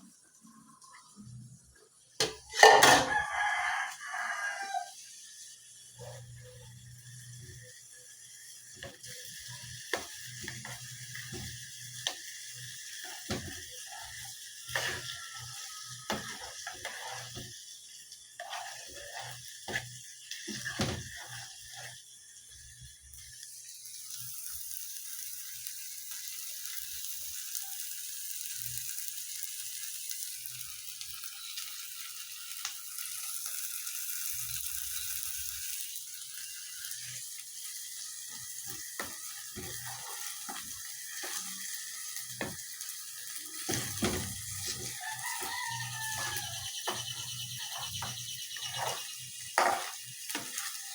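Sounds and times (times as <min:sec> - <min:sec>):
food sizzling in a pan: 0:00.0 - 0:50.9.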